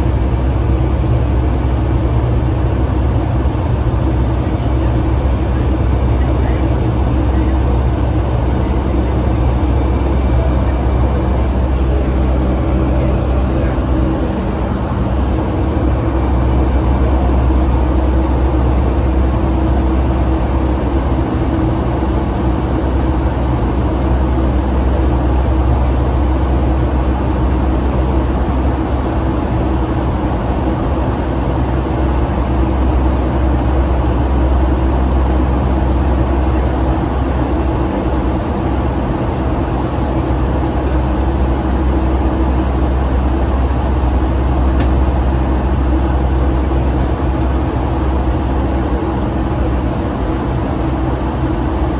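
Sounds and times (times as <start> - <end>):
jet engine drone in cabin: 0.0 - 51.9.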